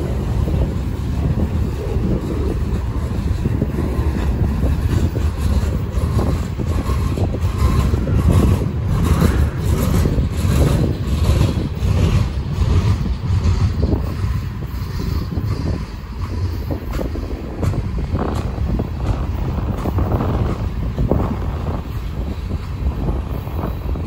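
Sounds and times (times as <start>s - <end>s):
rail cars clattering and rattling: 0.0s - 24.0s
train wheels rumbling on rail: 0.0s - 24.0s.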